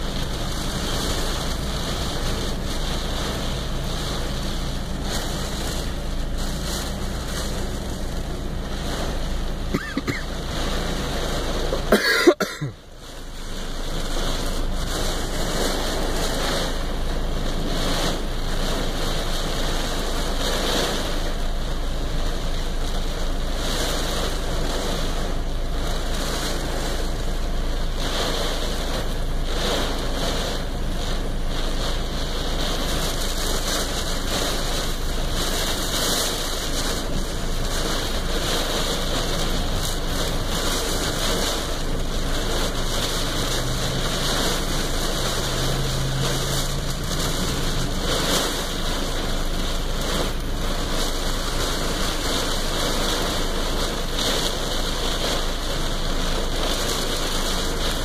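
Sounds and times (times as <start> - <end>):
gusting wind: 0.0 - 58.0
heavy rain on car: 0.0 - 58.0.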